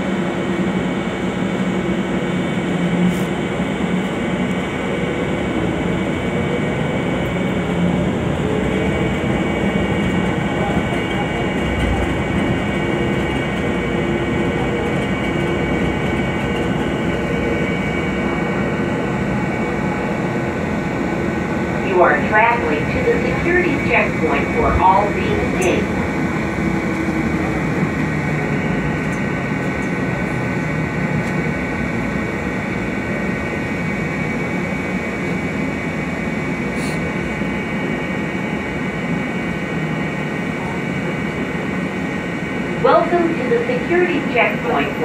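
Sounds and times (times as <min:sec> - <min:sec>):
tram rumbling along guideway: 0:00.0 - 0:45.0.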